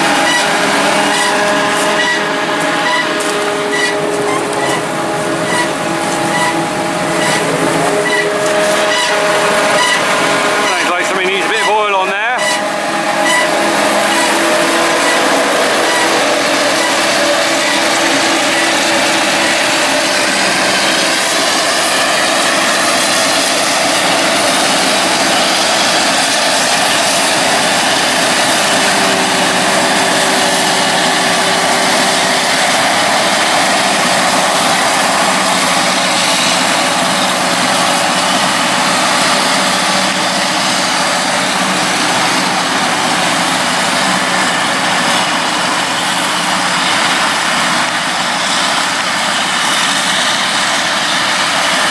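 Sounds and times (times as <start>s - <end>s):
forage harvester droning: 0.0s - 51.9s.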